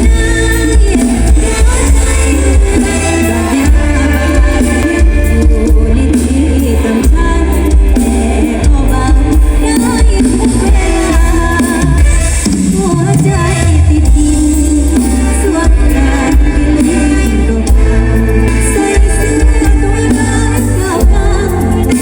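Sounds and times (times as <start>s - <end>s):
live band with pulsing bass: 0.0s - 22.0s
singer's voice: 0.0s - 22.0s.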